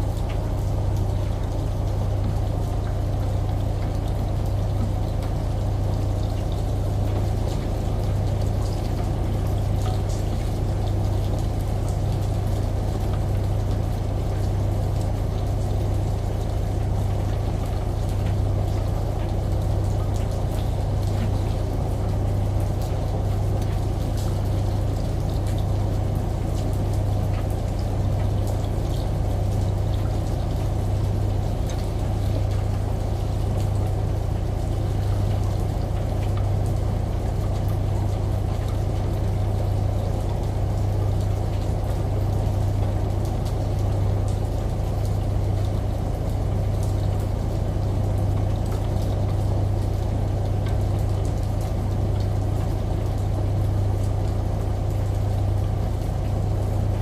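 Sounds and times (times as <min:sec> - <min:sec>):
faint drips and ticks: 0:00.0 - 0:57.0
rain: 0:00.0 - 0:57.0
running shower water: 0:00.0 - 0:57.0
washing machine hum: 0:00.0 - 0:57.0.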